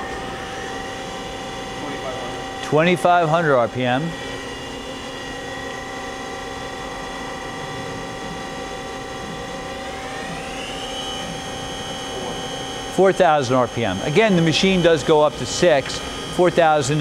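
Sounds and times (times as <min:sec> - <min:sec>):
machine spindle whining: 0:00.0 - 0:17.0.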